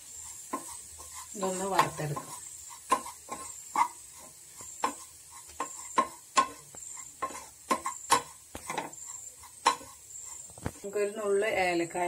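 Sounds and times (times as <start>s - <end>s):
faint sizzle: 0.0s - 12.0s
spatula scraping and tapping pan: 0.0s - 12.0s.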